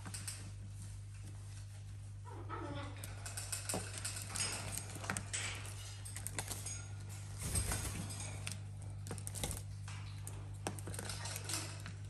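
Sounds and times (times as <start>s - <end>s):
parrots clicking and tapping: 0.0s - 1.2s, 2.7s - 12.0s.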